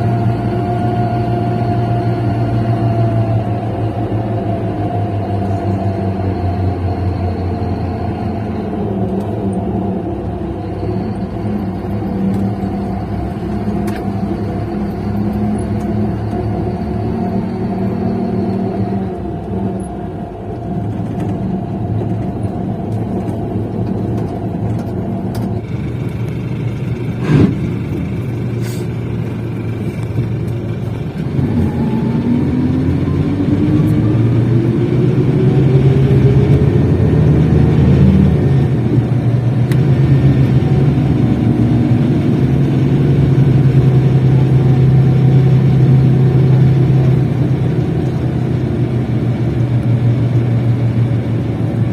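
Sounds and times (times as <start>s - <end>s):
bus engine running: 0.0s - 51.9s.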